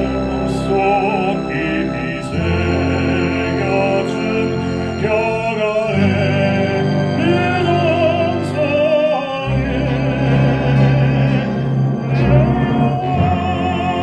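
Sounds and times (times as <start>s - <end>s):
baritone singing with vibrato: 0.0s - 14.0s
orchestra holding low notes: 0.0s - 14.0s.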